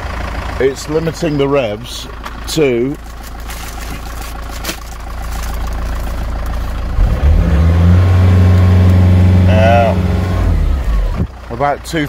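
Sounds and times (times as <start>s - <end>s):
van engine idling and revving: 0.0s - 12.0s.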